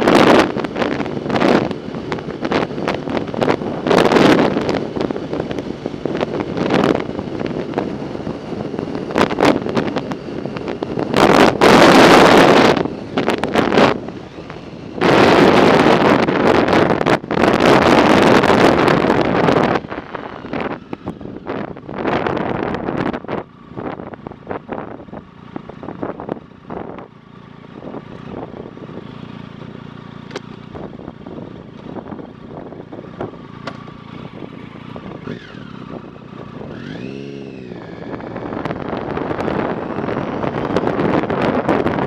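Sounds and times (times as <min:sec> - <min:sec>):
wind rushing on microphone: 0:00.0 - 0:42.0.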